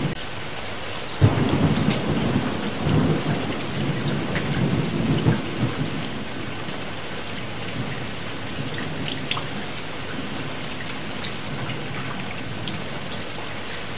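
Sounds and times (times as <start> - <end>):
steady rain: 0.0 - 13.9
low thunder rumble: 1.2 - 13.1.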